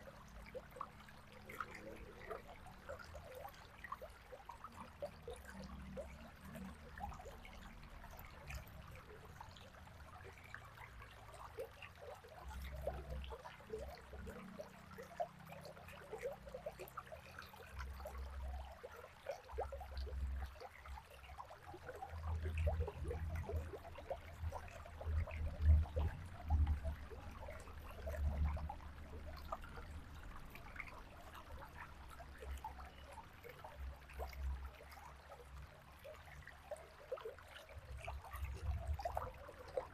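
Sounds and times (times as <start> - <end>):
river water trickling: 0.0 - 39.9
small bubbly splashes: 0.0 - 39.9.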